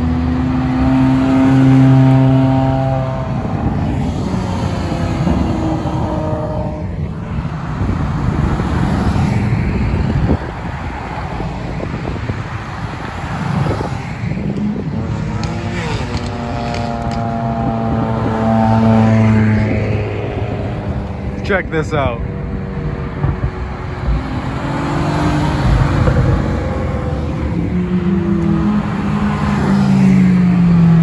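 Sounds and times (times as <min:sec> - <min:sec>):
sports cars accelerating past: 0:00.0 - 0:31.0.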